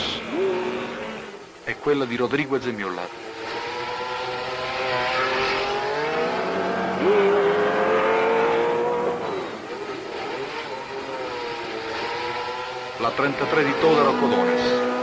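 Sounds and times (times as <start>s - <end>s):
racing engines at full throttle: 0.0s - 15.0s.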